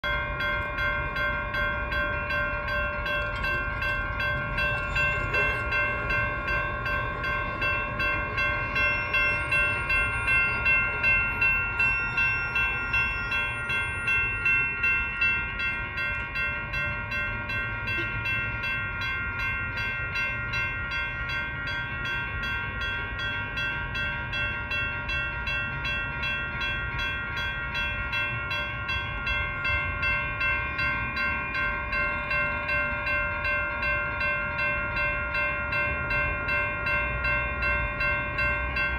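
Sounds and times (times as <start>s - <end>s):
railroad crossing bell ringing: 0.0s - 38.9s.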